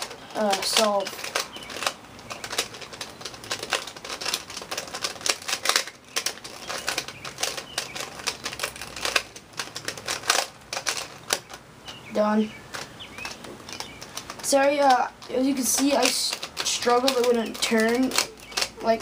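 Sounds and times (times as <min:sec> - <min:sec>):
puzzle cube plastic clicks: 0:00.0 - 0:19.0.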